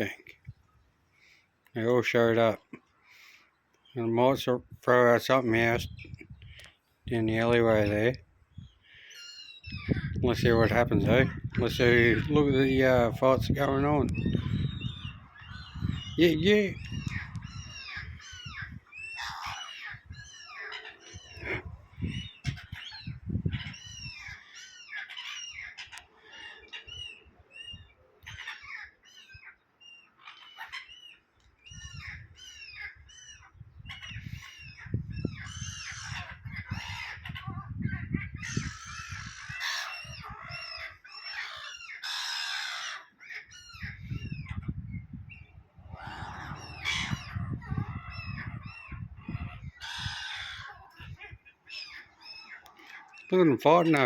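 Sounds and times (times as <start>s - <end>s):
seagulls squawking: 8.7s - 54.0s.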